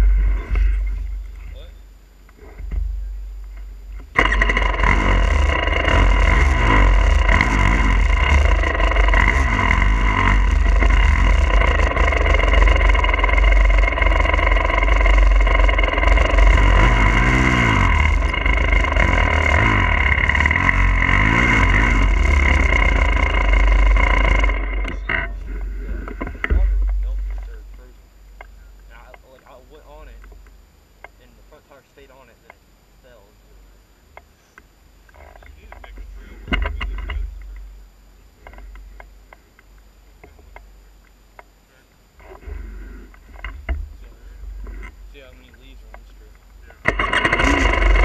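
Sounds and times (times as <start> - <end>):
dirt bike engine revving: 0.0 - 30.4, 35.1 - 37.7, 42.2 - 48.0.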